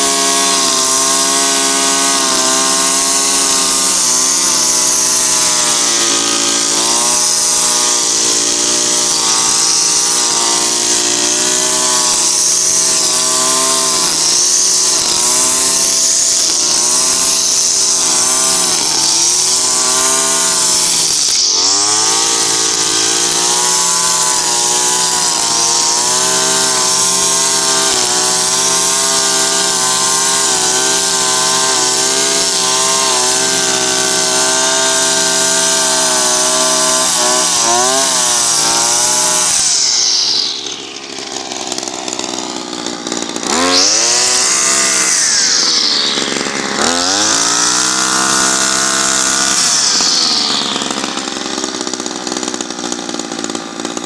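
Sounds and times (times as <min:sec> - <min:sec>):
brushcutter cutting grass: 0:00.0 - 0:54.0.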